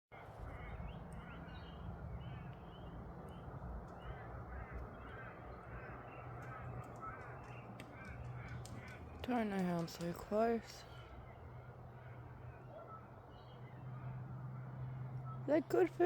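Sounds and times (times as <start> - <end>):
birds chirping: 0.2 - 16.0.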